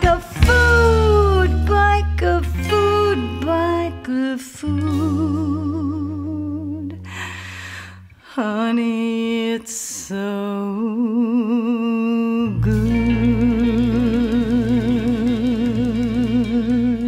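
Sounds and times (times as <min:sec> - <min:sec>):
slow melody with vibrato: 0:00.0 - 0:08.1, 0:10.8 - 0:17.0.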